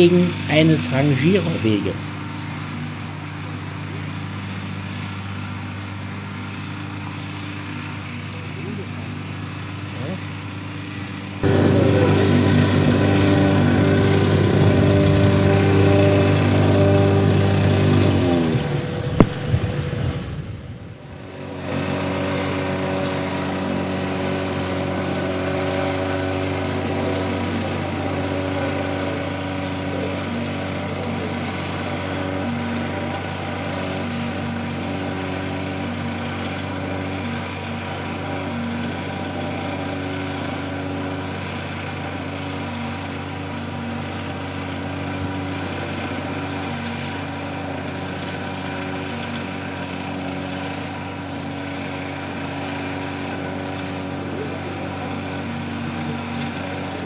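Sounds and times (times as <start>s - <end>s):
excavator working: 0.0s - 57.0s
locomotive engine droning: 0.0s - 57.0s.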